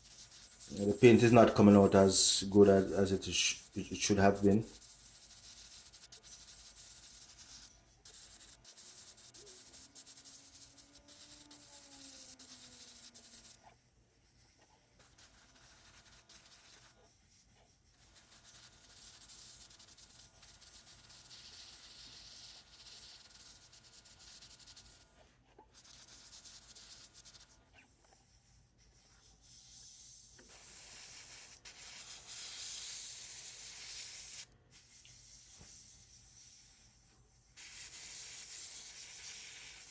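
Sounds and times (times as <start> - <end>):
airbrush hissing: 0.0 - 25.1, 25.7 - 39.9.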